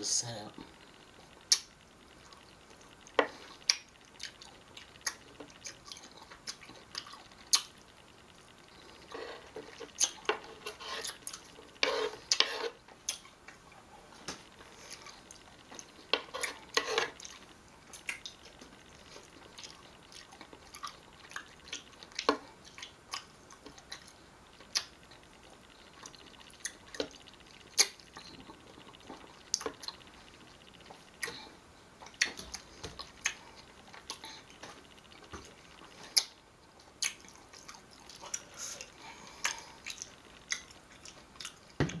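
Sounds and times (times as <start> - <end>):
wet chewing: 1.4 - 13.8, 14.5 - 41.8.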